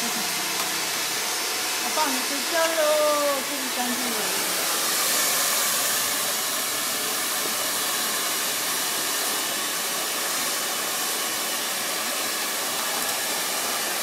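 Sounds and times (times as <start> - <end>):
blow dryer running: 0.0 - 14.0.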